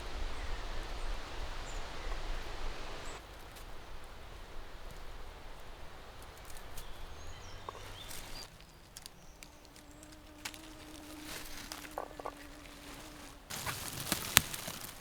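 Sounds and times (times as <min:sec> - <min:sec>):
wind rustling through trees: 0:00.0 - 0:15.0.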